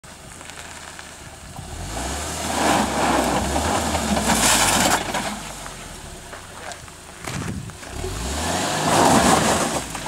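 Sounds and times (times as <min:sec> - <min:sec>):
car engine at low revs: 0:00.1 - 0:10.0.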